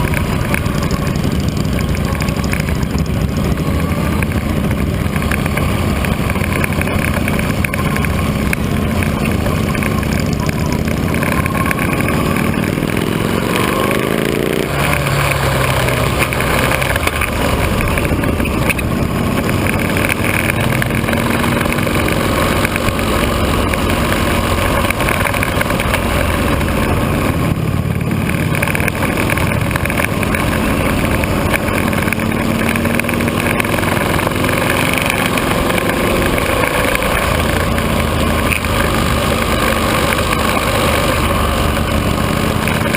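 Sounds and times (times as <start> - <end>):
motorcycle engines accelerating: 0.0 - 42.9.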